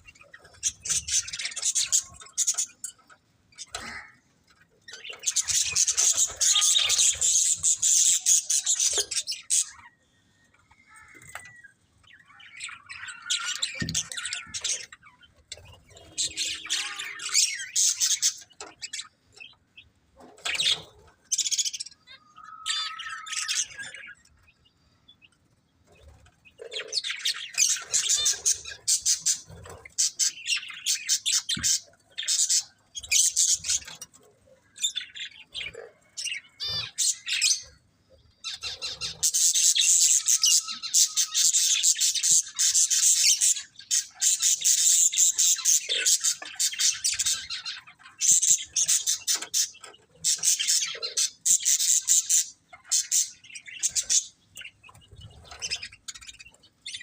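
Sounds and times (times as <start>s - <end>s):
budgerigars chattering and chirping: 0.0s - 10.0s, 10.7s - 57.0s.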